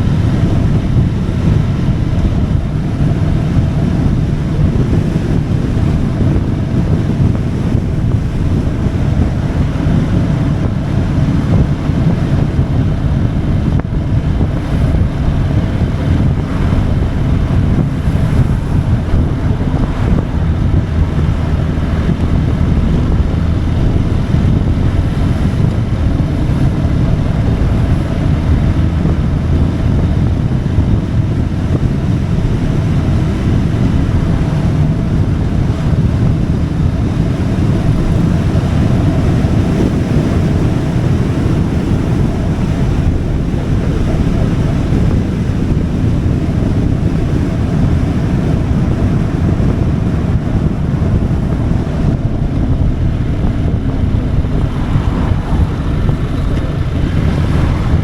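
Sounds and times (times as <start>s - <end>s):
motorcycle engine droning: 0.0s - 58.0s
wind rushing on microphone: 0.0s - 58.0s.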